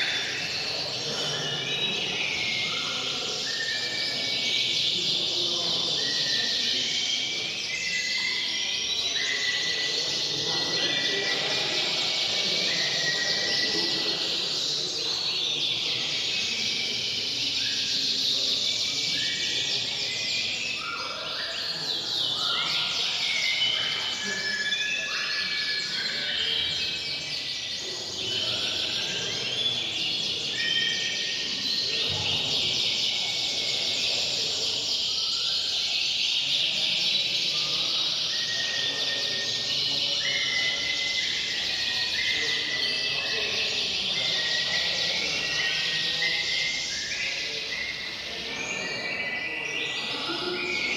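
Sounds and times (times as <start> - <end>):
canaries singing: 0.0 - 50.9.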